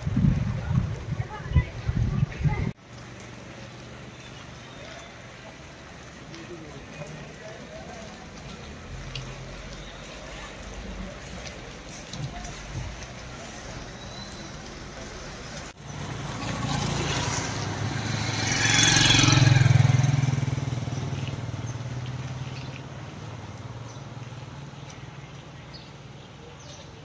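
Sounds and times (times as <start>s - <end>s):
vehicle passing on wet road: 0.0s - 27.0s.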